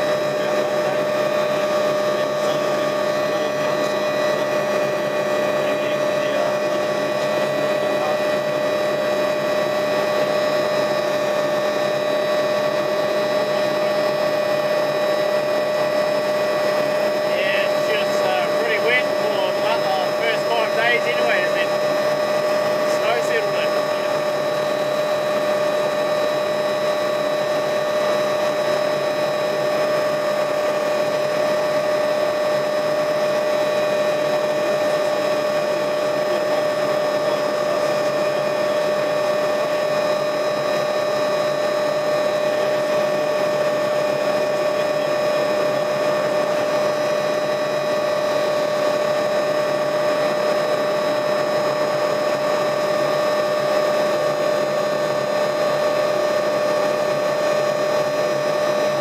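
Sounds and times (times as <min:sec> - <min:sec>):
helicopter engine and rotor noise: 0:00.0 - 0:59.0
helicopter whine: 0:00.0 - 0:59.0.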